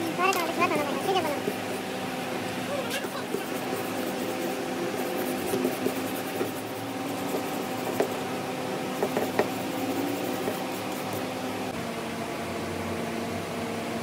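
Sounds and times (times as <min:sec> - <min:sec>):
small electric motor humming: 0:00.0 - 0:11.6.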